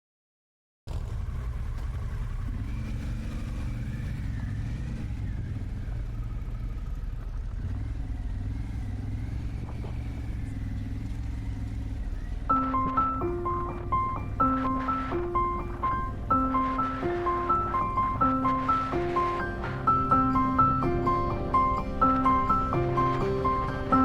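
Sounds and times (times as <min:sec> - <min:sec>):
motorcycle engine rumbling: 0:00.9 - 0:24.0.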